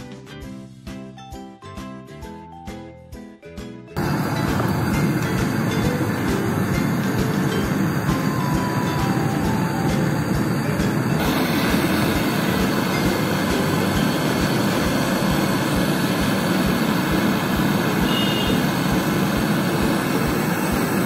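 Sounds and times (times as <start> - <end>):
gas torch flame rushing: 4.0 - 21.0.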